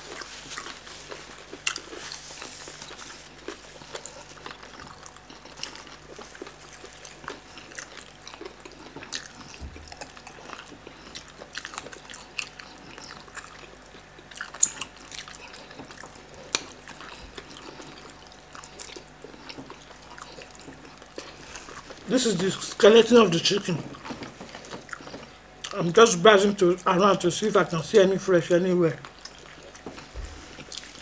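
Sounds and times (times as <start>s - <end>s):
wet chewing and mouth smacks: 0.1s - 22.1s, 23.9s - 25.8s, 29.0s - 31.0s.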